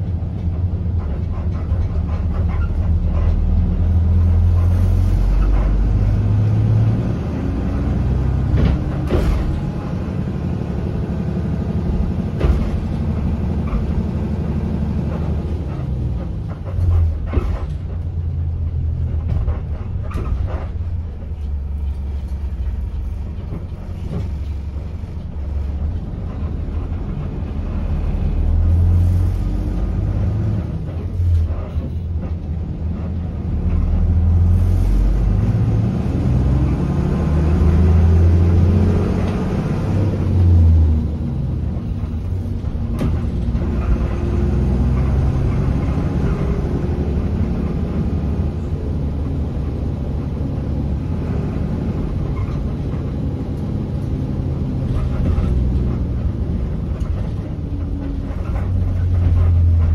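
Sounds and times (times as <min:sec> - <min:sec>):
bus body jolting and rattling: 0:00.0 - 0:59.9
bus diesel engine drone: 0:00.0 - 0:59.9.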